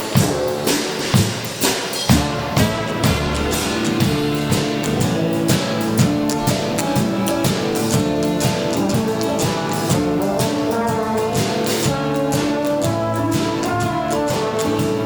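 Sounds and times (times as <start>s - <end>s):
drum kit beat: 0.0s - 15.0s
horn section holding notes: 2.1s - 15.0s.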